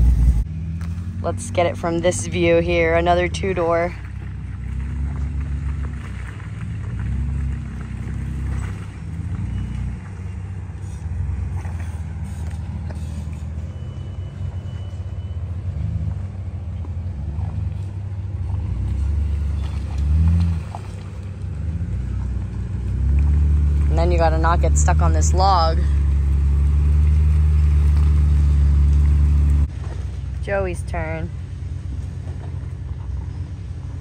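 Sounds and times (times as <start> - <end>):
car engine revving: 0.0 - 13.4, 15.6 - 29.7.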